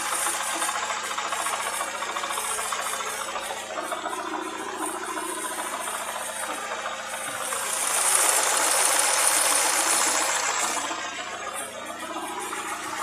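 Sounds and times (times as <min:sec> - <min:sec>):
car engine with rapid knock: 0:00.0 - 0:13.0.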